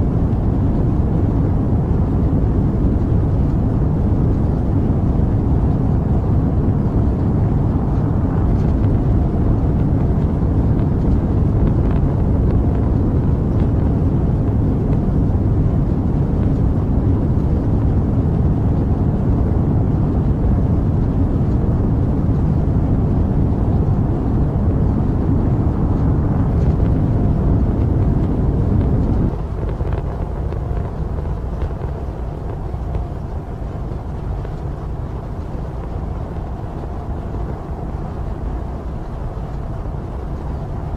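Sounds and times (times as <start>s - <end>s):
rocket engine roar: 0.0s - 40.9s.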